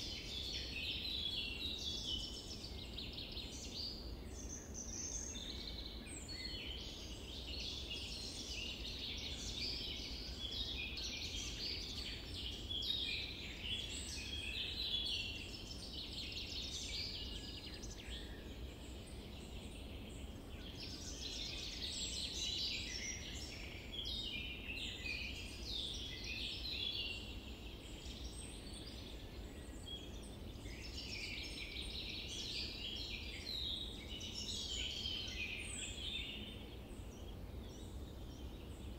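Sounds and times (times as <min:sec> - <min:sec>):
low background noise: 0:00.0 - 0:38.9
many birds chirping: 0:00.0 - 0:38.9.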